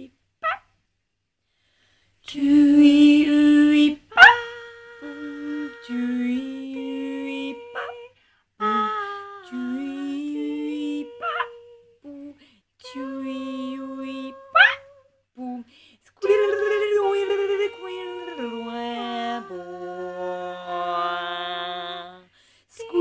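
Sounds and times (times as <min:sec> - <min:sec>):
two voices humming held notes: 0:02.3 - 0:23.0.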